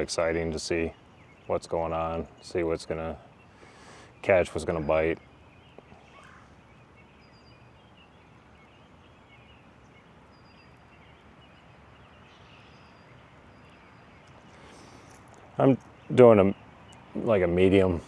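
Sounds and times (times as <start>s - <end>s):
faint river background noise: 0.0s - 18.0s.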